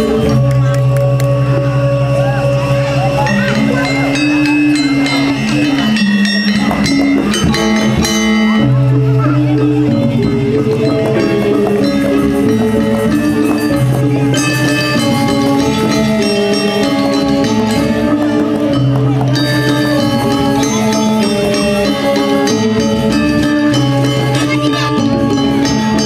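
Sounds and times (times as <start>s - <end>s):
gamelan metallophones struck: 0.0s - 26.0s.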